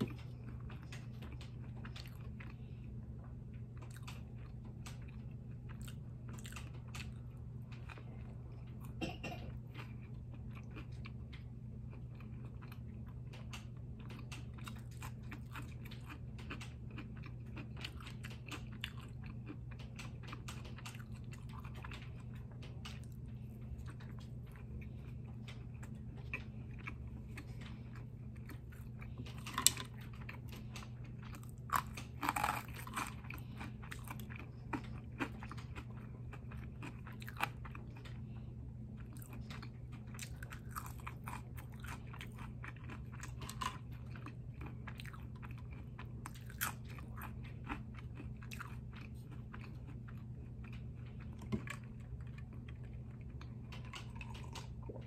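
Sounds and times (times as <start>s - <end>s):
chewing crunchy food: 0.0s - 55.0s
steady low hum: 0.0s - 55.0s.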